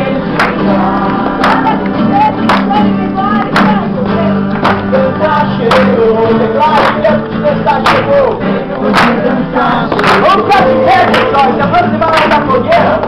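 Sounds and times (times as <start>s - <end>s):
acoustic guitar strumming: 0.0s - 13.0s
group singing a worship song: 0.0s - 13.0s.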